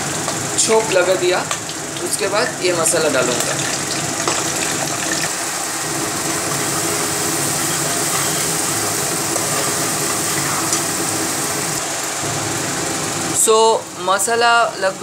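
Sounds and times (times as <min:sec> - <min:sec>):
spices sizzling in hot oil: 0:00.0 - 0:13.4.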